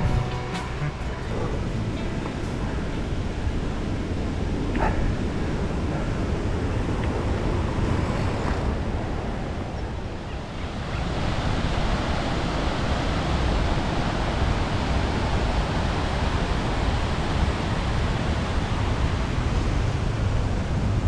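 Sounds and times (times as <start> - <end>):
wind buffeting microphone: 1.0 - 21.0.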